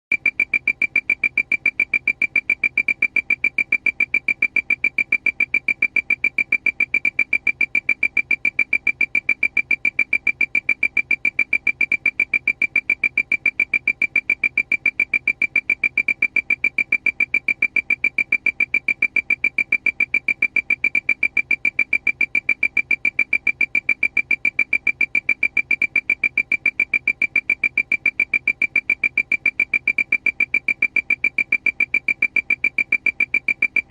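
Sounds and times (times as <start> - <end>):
rapid high-pitched warning beeps: 0.1 - 33.9.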